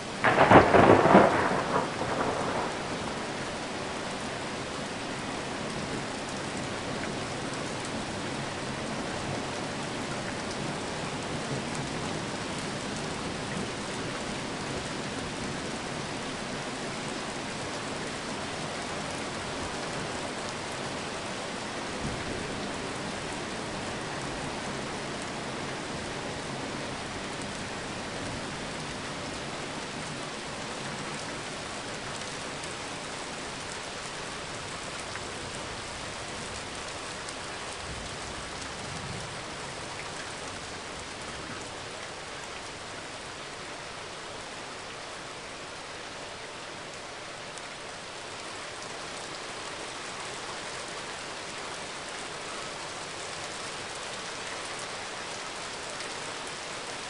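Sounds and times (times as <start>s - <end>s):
rain on pavement: 0.0s - 57.0s.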